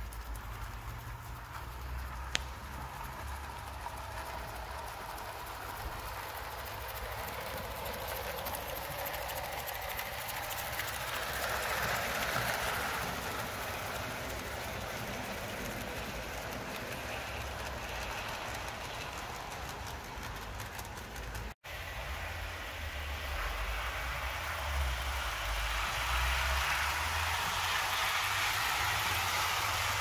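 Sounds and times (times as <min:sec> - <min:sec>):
model steam locomotive running: 0:00.0 - 0:30.0.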